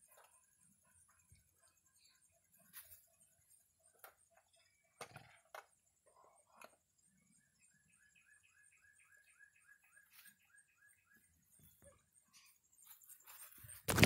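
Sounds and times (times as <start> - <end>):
faint repeated chirps: 0.0 - 13.9.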